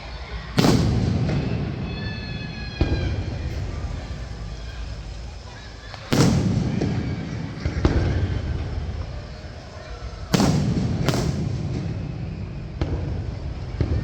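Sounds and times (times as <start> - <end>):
continuous low rumble: 0.0 - 14.0
firework shells bursting: 0.0 - 14.0.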